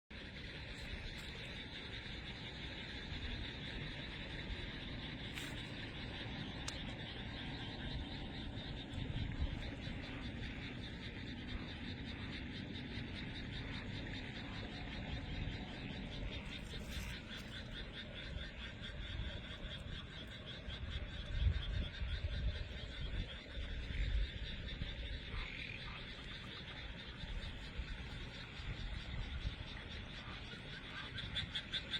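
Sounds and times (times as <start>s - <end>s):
low rumbles: 0.1s - 31.6s
chorus of frogs calling: 0.1s - 31.9s.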